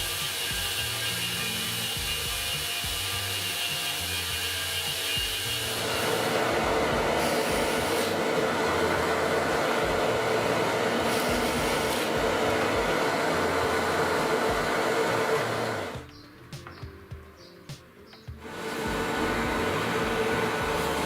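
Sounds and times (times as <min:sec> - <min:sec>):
power tool motor whirring: 0:00.0 - 0:16.0, 0:18.4 - 0:21.0.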